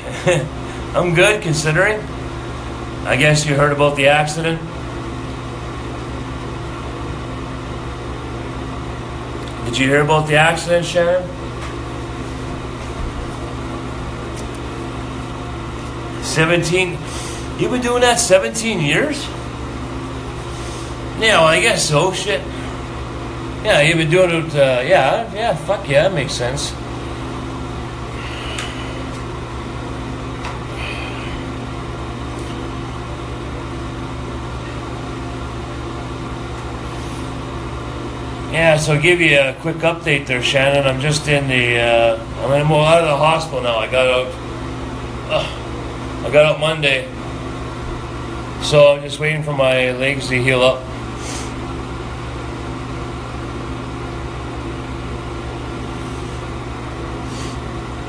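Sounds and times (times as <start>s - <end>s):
exhaust fan humming: 0.0s - 58.0s.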